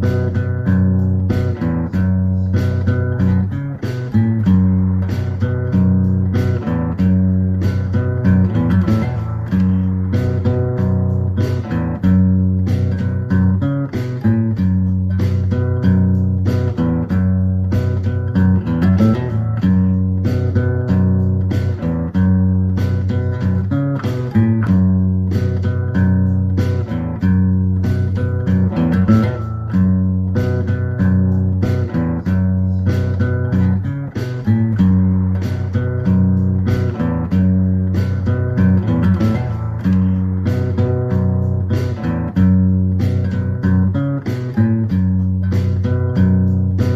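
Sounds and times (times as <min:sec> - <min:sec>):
plucked guitar: 0:00.0 - 0:46.9
steady bass line: 0:00.0 - 0:46.9.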